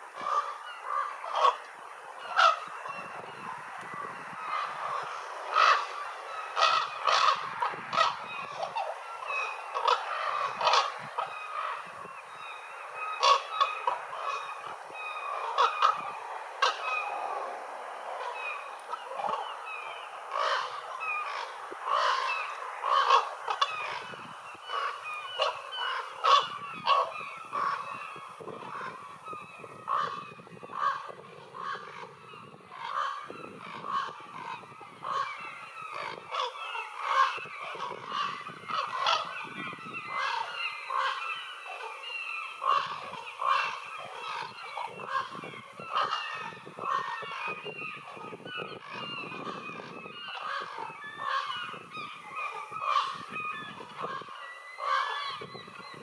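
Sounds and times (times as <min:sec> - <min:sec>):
ravens calling: 0:00.0 - 0:56.0.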